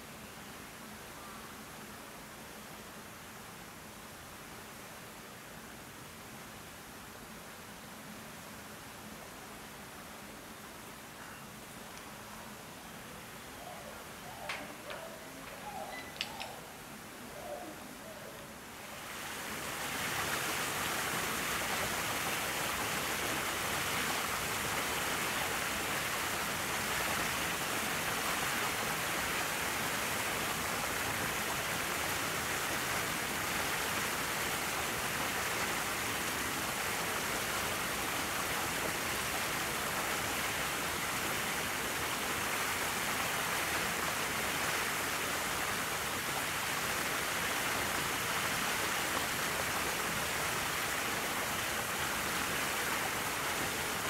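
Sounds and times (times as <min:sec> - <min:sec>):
falling water hiss: 0:00.0 - 0:54.0.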